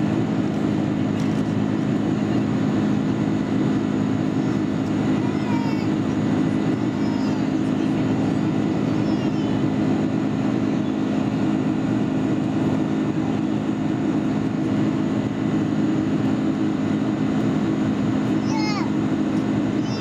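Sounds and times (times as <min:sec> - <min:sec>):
airplane cabin hum: 0:00.0 - 0:20.0
engine and airflow rush: 0:00.0 - 0:20.0.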